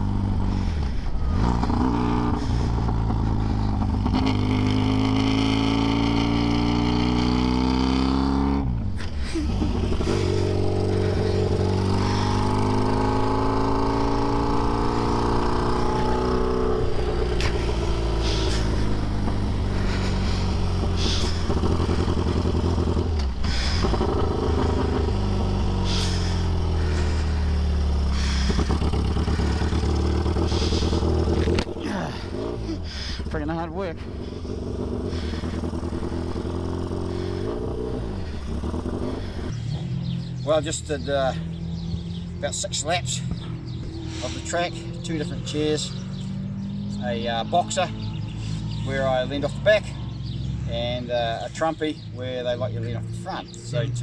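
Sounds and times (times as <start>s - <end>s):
racing sidecar engine revving: 0.0s - 54.0s.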